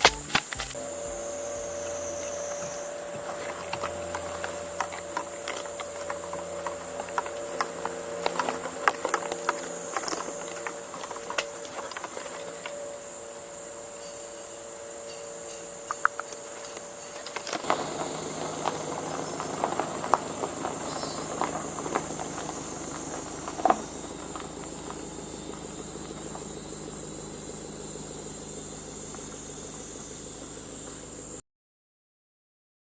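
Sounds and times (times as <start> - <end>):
insects chorus: 0.0 - 31.4
low steady hum: 0.0 - 31.4.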